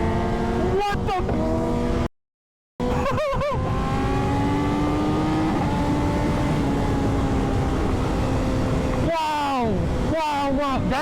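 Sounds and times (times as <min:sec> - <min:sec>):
motorcycle engine at high revs: 0:00.0 - 0:02.1, 0:02.8 - 0:11.0.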